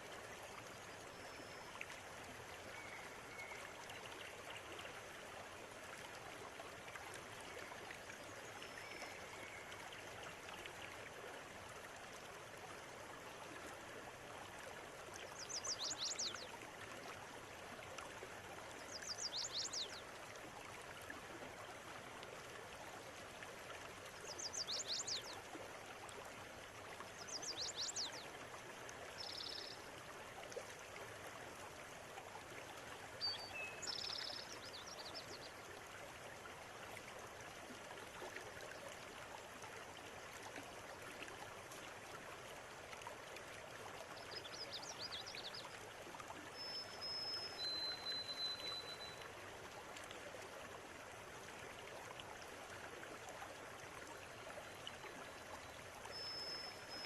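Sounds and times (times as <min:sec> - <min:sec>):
river water running: 0:00.0 - 0:57.0.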